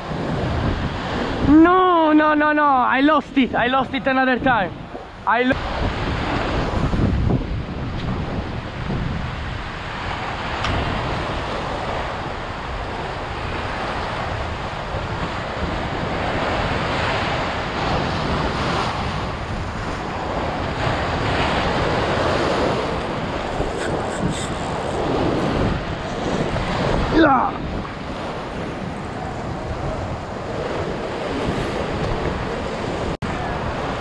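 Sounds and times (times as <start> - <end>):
wind buffeting microphone: 0.0 - 34.0
surf breaking over rocks: 5.6 - 34.0.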